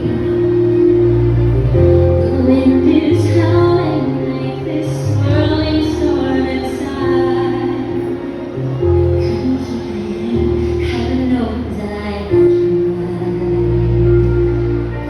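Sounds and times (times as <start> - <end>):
soft song with woman singing: 0.0 - 15.0.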